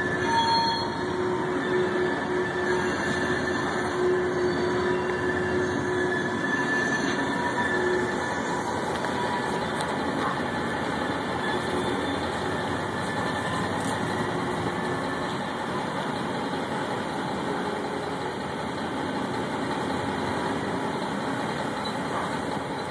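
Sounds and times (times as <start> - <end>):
diesel locomotive engine running: 0.0 - 22.9.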